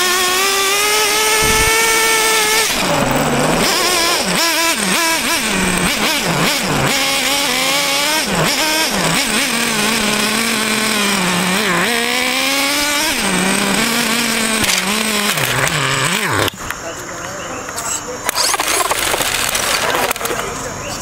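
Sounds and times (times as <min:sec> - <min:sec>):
rc car engine revving: 0:00.0 - 0:16.8, 0:18.3 - 0:20.5.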